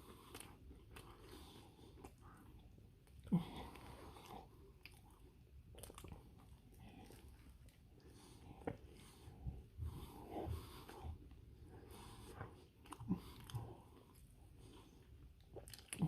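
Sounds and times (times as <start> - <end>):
wet chewing: 0.0 - 16.0.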